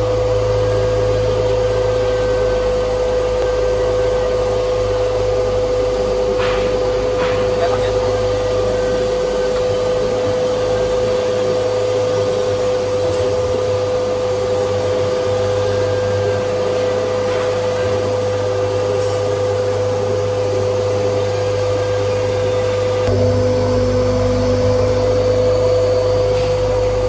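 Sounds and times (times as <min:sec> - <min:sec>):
cutting machine droning: 0:00.0 - 0:27.0.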